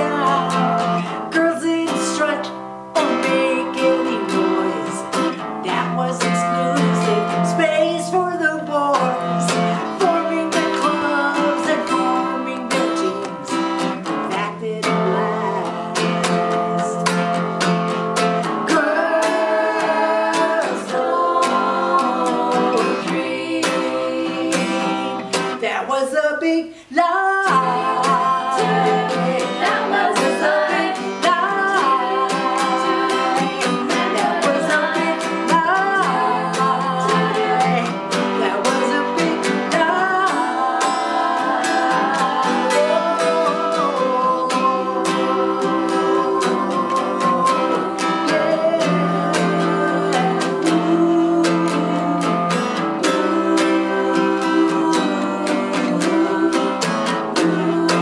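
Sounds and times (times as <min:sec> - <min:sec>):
acoustic guitar strumming: 0:00.0 - 0:58.0
woman and girls singing: 0:00.0 - 0:58.0.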